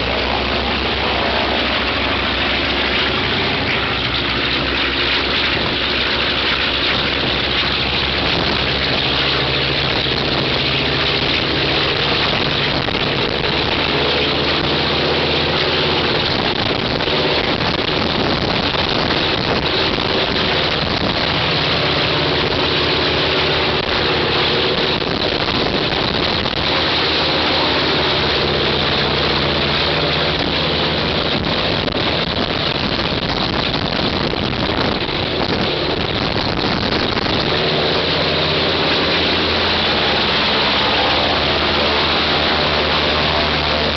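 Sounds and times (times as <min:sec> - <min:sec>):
aircraft engine droning: 0:00.0 - 0:43.9.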